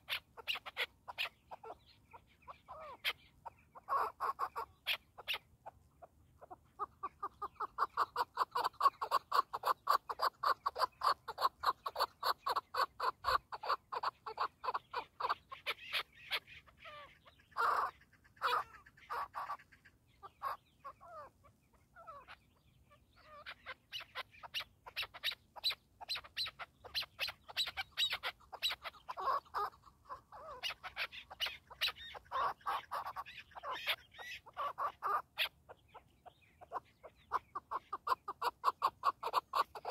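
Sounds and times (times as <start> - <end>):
partridge clucking calls: 0.0 - 39.9.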